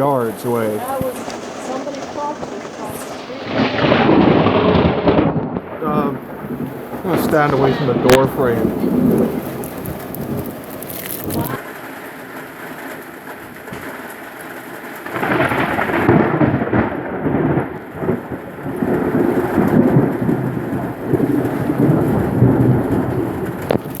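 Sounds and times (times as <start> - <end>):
long roll of thunder: 0.0 - 24.0
steady rain: 0.0 - 24.0.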